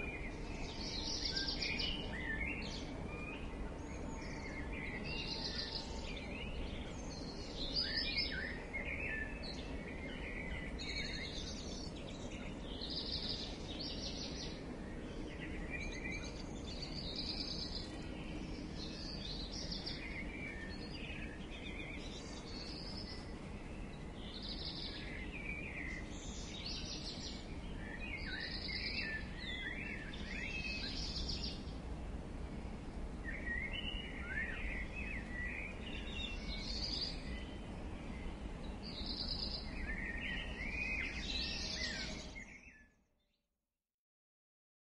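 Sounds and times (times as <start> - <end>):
birds chirping and singing: 0.0 - 31.8, 33.1 - 43.0.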